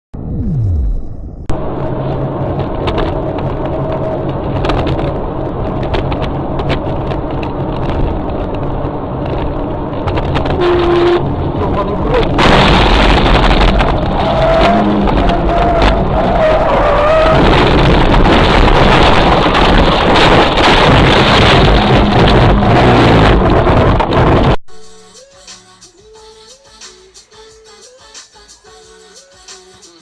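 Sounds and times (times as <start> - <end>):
car engine: 0.1 - 24.6
loud rushing noise: 0.2 - 24.6
road noise: 0.2 - 24.6.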